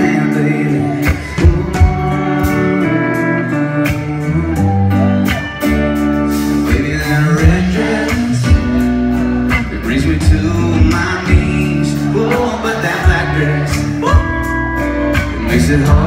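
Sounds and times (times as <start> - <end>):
bass: 0.0 - 16.0
guitar melody: 0.0 - 16.0.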